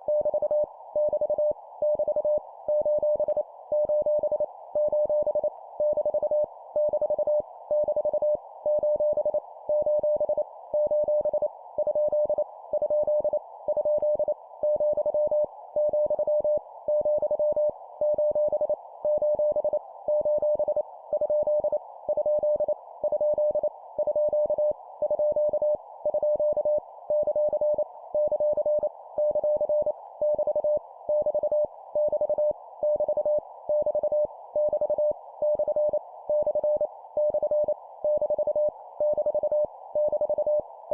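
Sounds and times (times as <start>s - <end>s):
morse code beeps: 0.1s - 40.6s.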